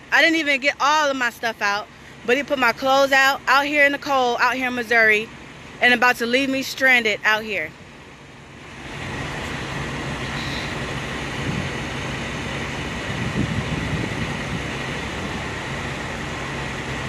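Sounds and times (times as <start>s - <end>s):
diesel truck engine idling: 0.0s - 17.0s
faint steady whine: 0.0s - 17.0s.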